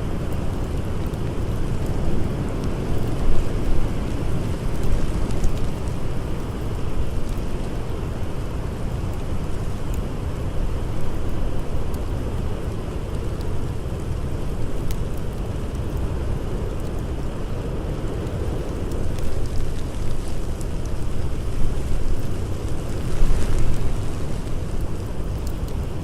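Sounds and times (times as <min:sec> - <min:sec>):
blizzard wind rumbling: 0:00.0 - 0:26.0
wood fire crackling: 0:00.0 - 0:26.0.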